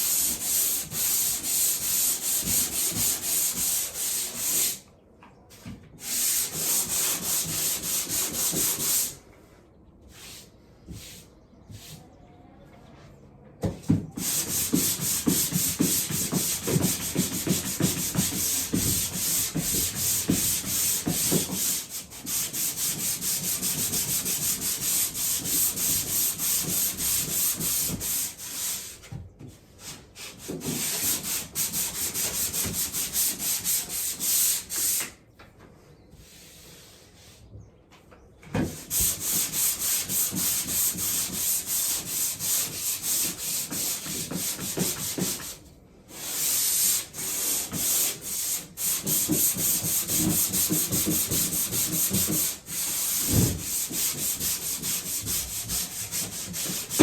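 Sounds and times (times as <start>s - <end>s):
sandpaper scraping drywall: 0.0s - 4.9s, 6.0s - 9.2s, 14.1s - 29.1s, 29.8s - 35.2s, 38.6s - 57.0s.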